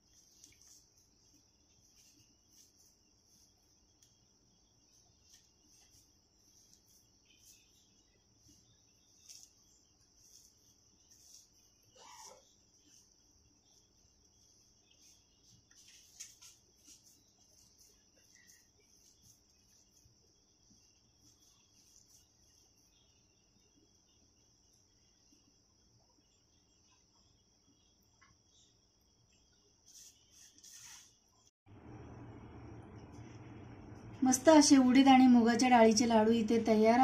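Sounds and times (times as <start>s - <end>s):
crickets trilling: 0.0s - 32.3s.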